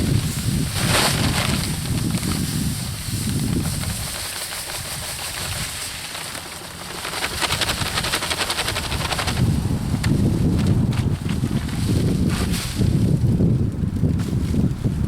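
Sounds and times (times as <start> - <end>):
wind buffeting microphone: 0.0 - 6.0, 6.7 - 15.0.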